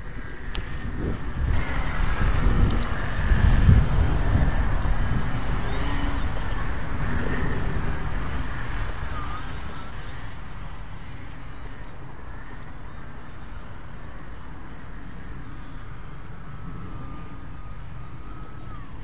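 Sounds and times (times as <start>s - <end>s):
electric motor and propeller whine: 0.0s - 19.0s
wind buffeting microphone: 0.0s - 19.0s.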